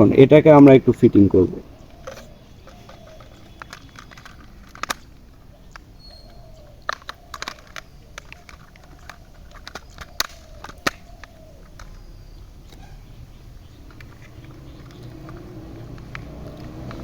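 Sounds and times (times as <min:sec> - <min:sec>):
plastic toy parts clicking: 0:01.8 - 0:17.0.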